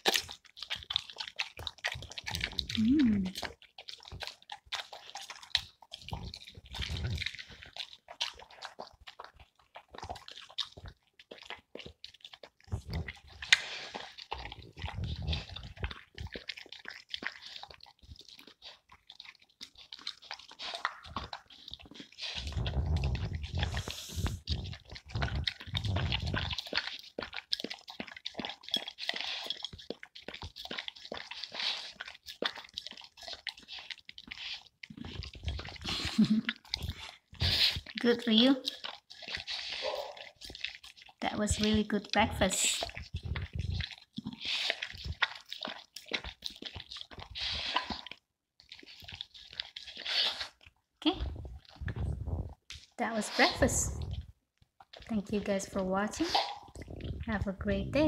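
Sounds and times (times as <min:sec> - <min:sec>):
dog chewing and licking wet food: 0:00.0 - 0:58.0.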